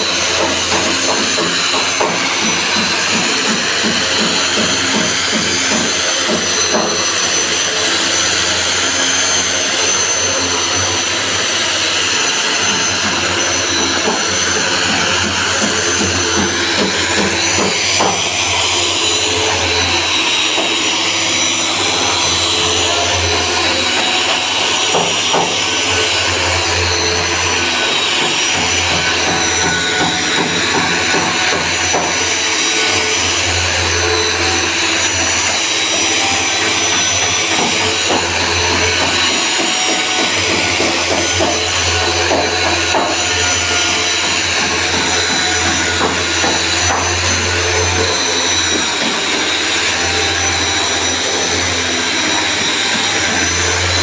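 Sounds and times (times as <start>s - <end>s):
power sander on wood: 0.0s - 54.0s.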